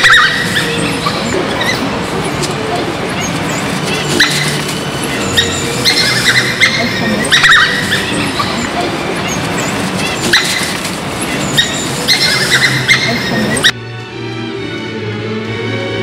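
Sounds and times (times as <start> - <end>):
wild dogs twittering and yipping: 0.0 - 13.8.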